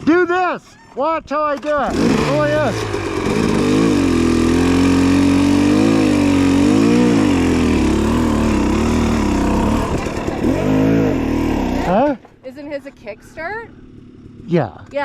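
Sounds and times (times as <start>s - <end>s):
dirt bike engine idling: 1.9s - 15.0s.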